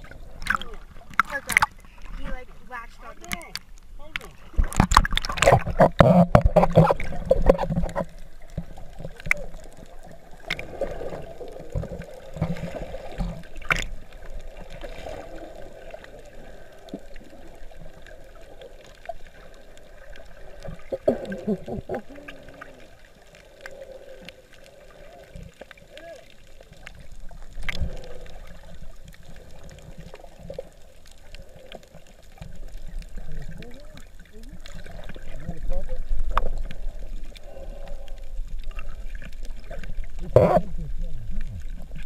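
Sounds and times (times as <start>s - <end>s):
small clicks underwater: 0.0s - 2.5s, 3.1s - 42.0s
muffled underwater water rushing: 0.0s - 42.0s
water splashing: 0.0s - 42.0s.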